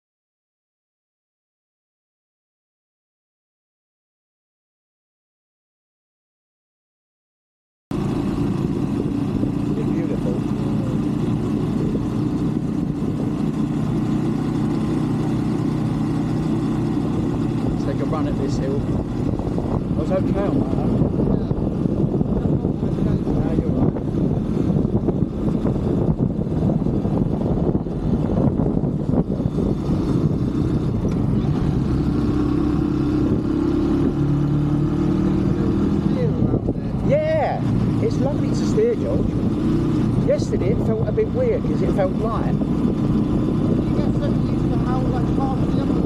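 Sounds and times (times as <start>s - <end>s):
motorbike engine running: 7.9s - 46.0s
wind noise: 8.0s - 46.0s.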